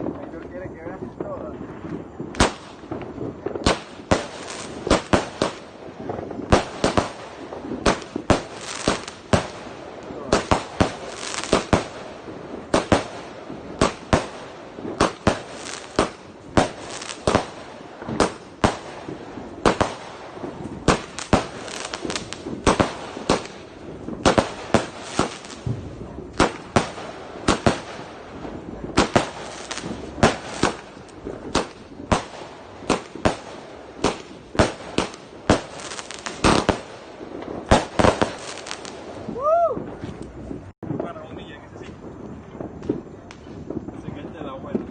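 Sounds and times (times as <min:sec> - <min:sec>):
fireworks bangs: 0:00.0 - 0:44.9.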